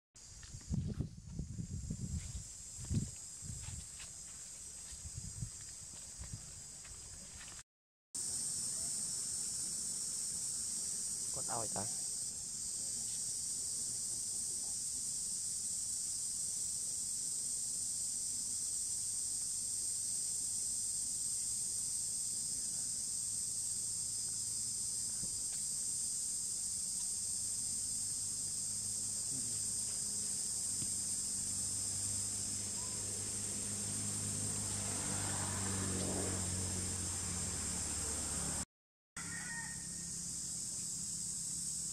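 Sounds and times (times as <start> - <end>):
high-pitched insect chorus: 0.2 - 7.6, 8.2 - 38.6, 39.2 - 41.9.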